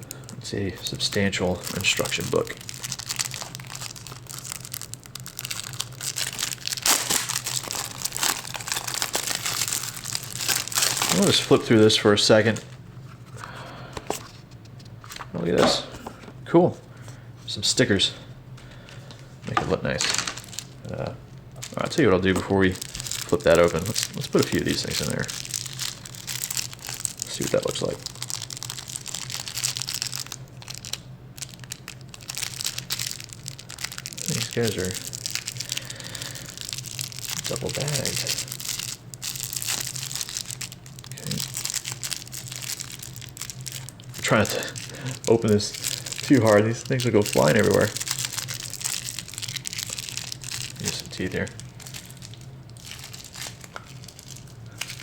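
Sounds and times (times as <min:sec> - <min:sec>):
packaging crinkling and rustling: 0:00.0 - 0:16.4, 0:18.6 - 0:55.0.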